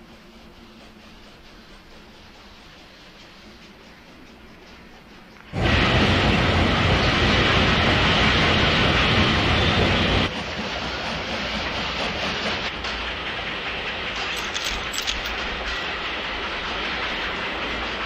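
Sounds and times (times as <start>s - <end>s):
train rumbling with wheel clatter: 0.0s - 18.0s.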